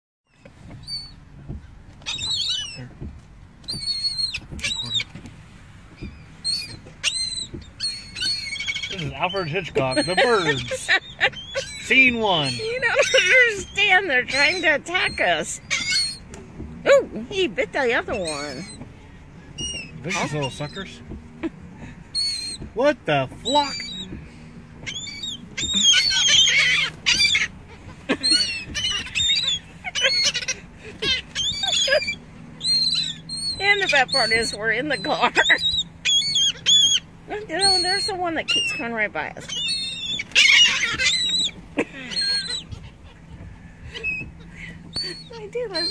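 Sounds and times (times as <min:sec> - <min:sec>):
gulls calling: 0:00.3 - 0:45.9.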